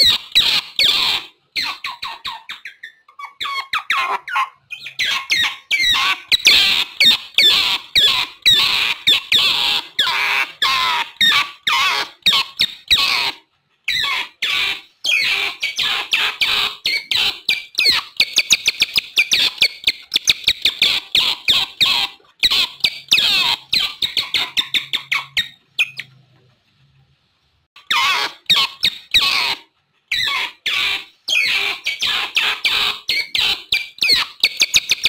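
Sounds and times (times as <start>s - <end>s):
otters chirping and squealing: 0.0s - 26.2s, 27.8s - 35.0s.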